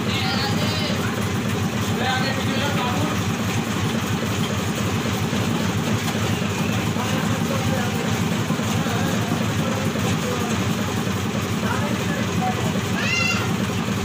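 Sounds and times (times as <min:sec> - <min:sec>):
heavy engine running: 0:00.0 - 0:14.0.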